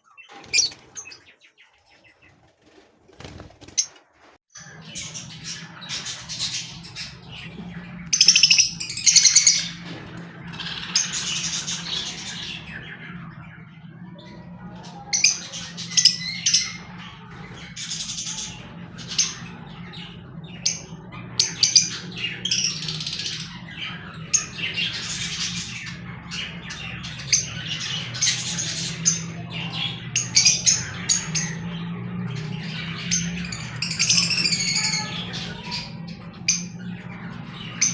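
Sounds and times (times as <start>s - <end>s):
lovebirds chirping and squawking: 0.0s - 37.9s
steady low hum: 2.5s - 37.9s.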